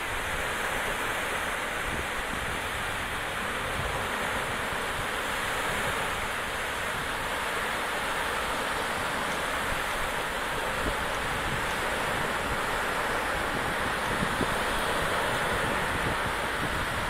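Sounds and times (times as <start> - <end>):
wind rumble on microphone: 0.0 - 7.7, 8.6 - 17.0
waves washing onto beach: 0.0 - 17.0.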